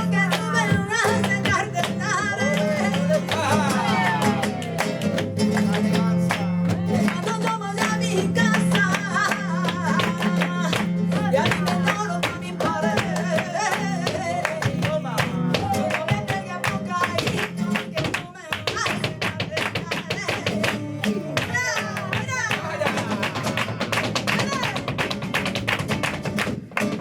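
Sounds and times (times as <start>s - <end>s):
person singing: 0.0s - 24.8s
flamenco guitar: 0.0s - 27.0s.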